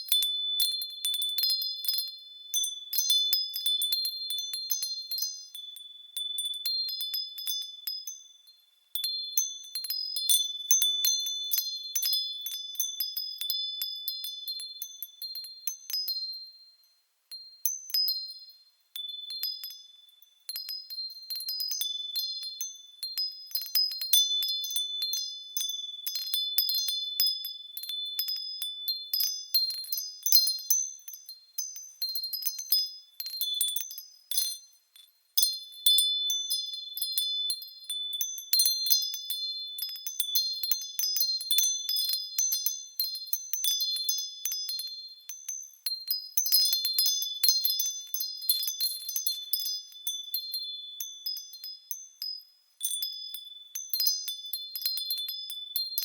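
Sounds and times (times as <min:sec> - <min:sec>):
wind chimes tinkling: 0:00.0 - 0:56.0.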